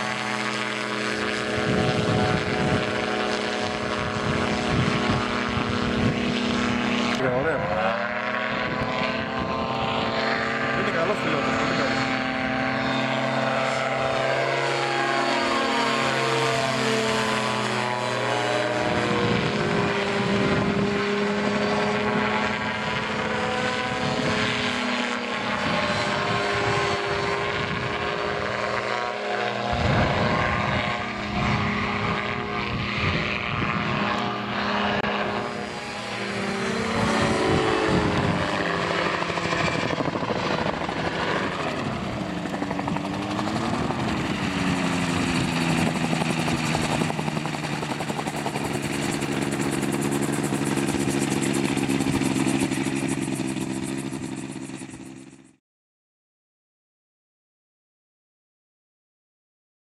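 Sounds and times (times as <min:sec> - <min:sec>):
gyroplane engine and propeller drone: 0:00.0 - 0:55.6.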